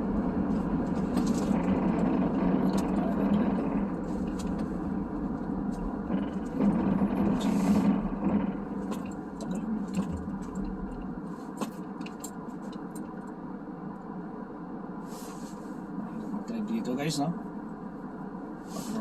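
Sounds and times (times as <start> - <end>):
engine and tyre hum: 0.0 - 19.0.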